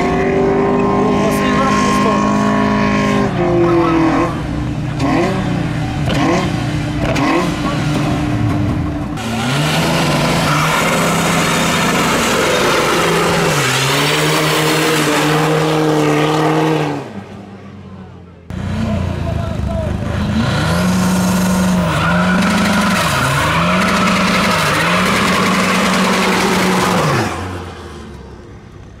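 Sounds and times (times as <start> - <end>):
car engine revving in blips: 0.0 - 17.1, 20.0 - 28.0
car engine holding high revs: 0.0 - 17.4, 18.4 - 28.4
spinning tyres rushing: 0.0 - 17.4, 18.5 - 29.0.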